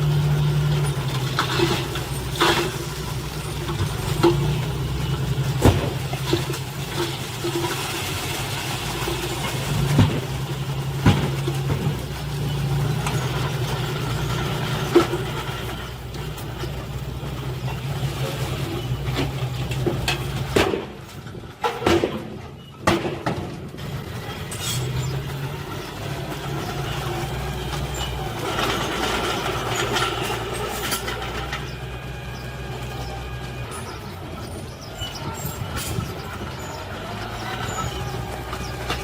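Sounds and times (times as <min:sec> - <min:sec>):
diesel machinery running: 0:00.0 - 0:39.0.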